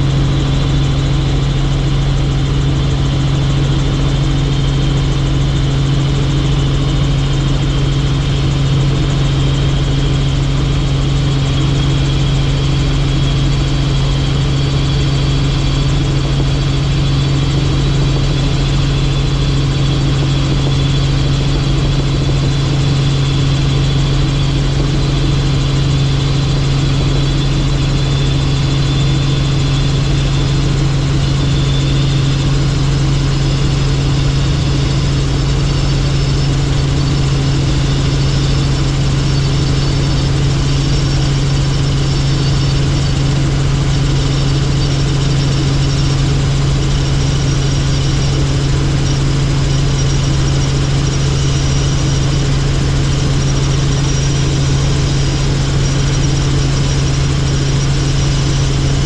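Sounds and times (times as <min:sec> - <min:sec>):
faint high whine: 0:00.0 - 0:59.0
helicopter engine and rotor drone: 0:00.0 - 0:59.0.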